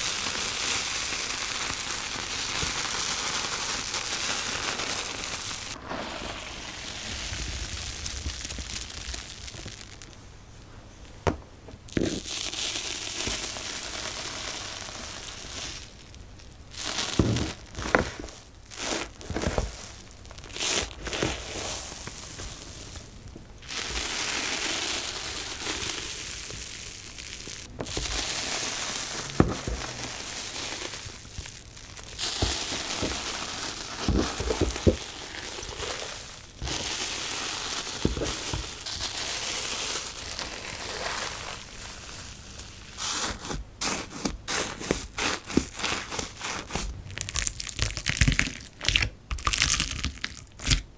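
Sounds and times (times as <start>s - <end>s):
slime crackling and crinkling: 0.0s - 10.4s, 11.8s - 50.9s.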